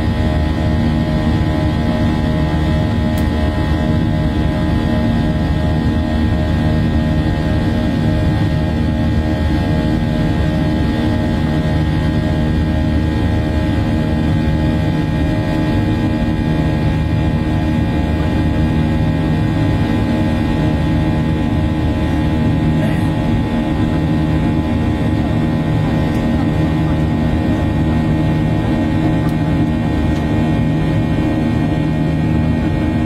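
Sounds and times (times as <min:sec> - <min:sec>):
jet engine drone in cabin: 0:00.0 - 0:33.0.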